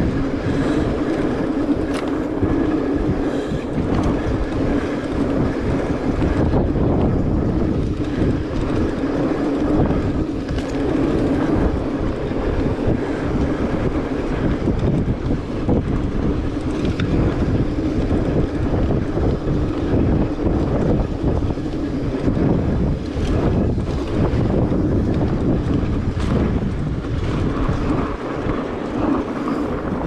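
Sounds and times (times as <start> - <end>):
studded tires rolling: 0.0 - 30.0
wind rumble on microphone: 0.0 - 30.0.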